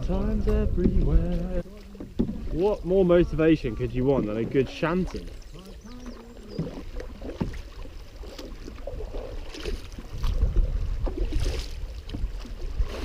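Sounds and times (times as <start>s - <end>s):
paddle strokes splashing water: 0.0s - 13.0s
wind rumbling on microphone: 0.0s - 13.0s.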